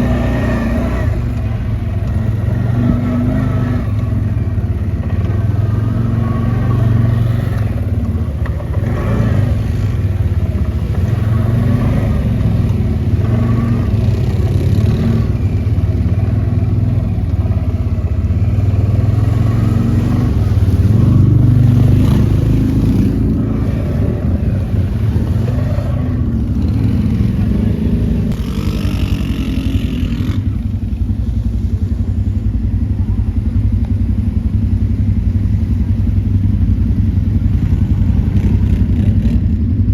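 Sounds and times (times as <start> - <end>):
quad bike engine revving: 0.0 - 35.0, 36.2 - 39.9.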